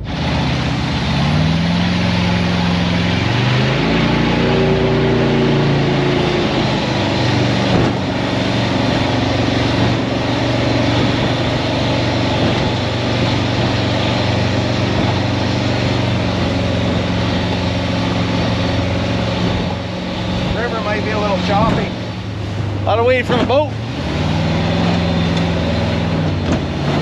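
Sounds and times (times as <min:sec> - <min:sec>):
rush of wind and water: 0:00.0 - 0:27.0
speedboat engine drone: 0:00.0 - 0:27.0.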